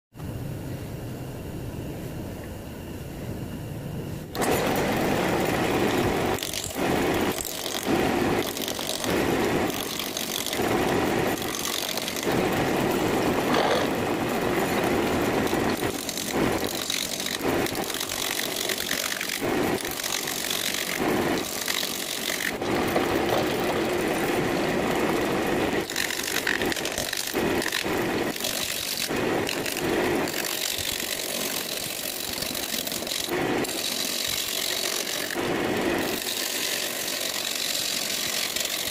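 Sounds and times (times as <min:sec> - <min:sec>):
gouge cutting wood: 0:04.4 - 0:38.9
wood lathe running: 0:04.4 - 0:38.9.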